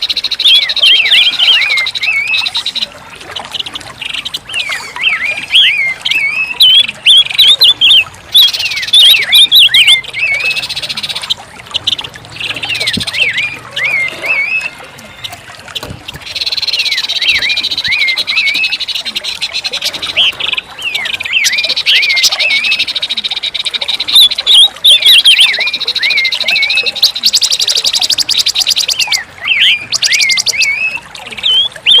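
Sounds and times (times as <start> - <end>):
bird chirping and twittering: 0.0 - 32.0.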